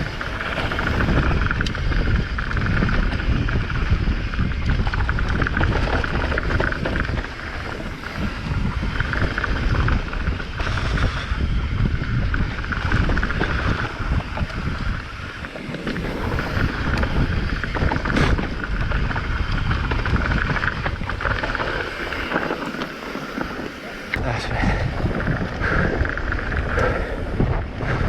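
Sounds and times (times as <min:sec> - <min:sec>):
mountain bike rumbling and rattling: 0:00.0 - 0:28.0
wind buffeting microphone: 0:00.0 - 0:28.0.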